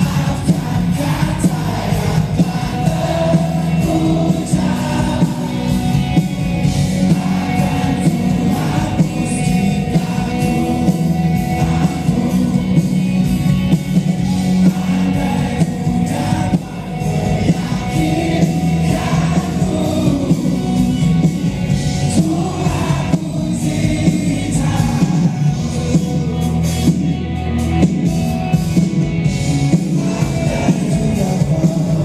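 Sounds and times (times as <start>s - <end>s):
man singing lead: 0.0s - 6.0s, 6.6s - 13.3s, 14.2s - 26.7s, 29.4s - 32.0s
drums: 0.0s - 32.0s
electric guitars: 0.0s - 32.0s.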